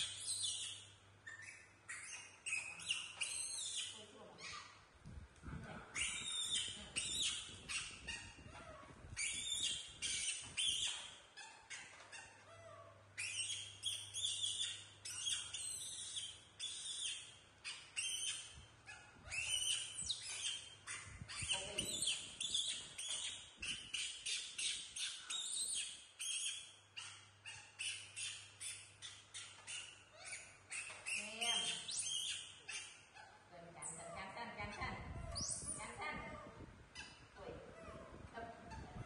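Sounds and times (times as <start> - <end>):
baby monkeys squeaking: 0.0 - 4.9, 5.9 - 39.0
faint low hum: 0.0 - 39.0.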